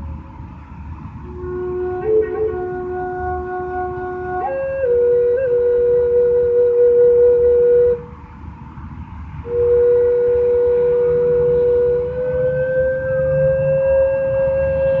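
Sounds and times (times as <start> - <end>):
flute-like held notes: 1.2 - 8.2, 9.4 - 15.0.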